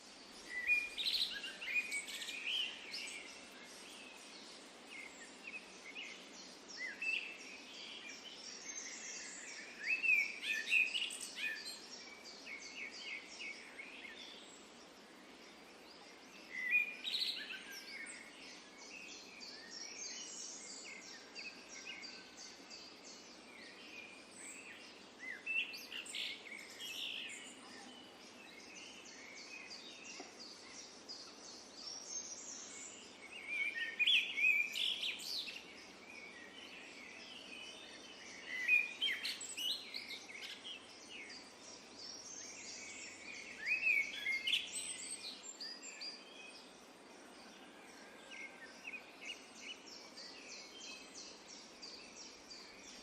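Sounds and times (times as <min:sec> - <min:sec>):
outdoor background hiss: 0:00.0 - 0:53.0
songbirds chirping: 0:00.0 - 0:53.0.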